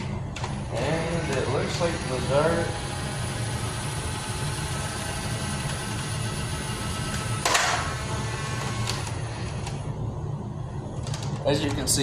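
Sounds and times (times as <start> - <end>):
electric flywheel motors whirring: 0.0 - 12.0.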